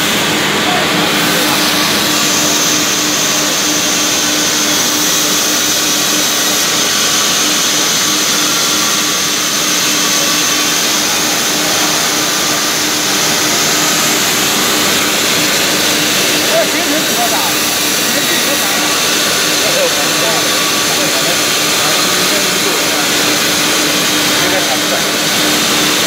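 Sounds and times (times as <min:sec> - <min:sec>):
saw machine humming and whining: 0:00.0 - 0:26.0.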